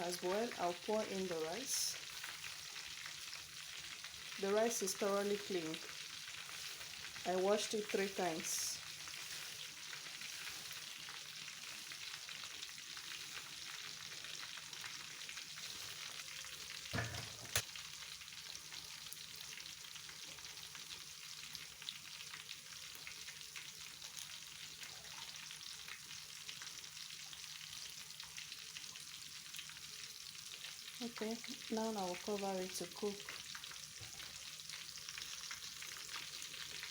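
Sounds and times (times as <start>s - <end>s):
food sizzling on stove: 0.0s - 36.9s.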